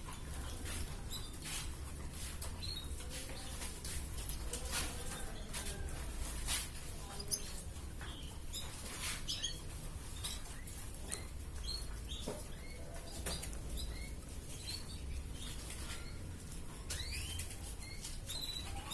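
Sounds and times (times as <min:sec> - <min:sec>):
canary chirping: 0:00.0 - 0:18.9.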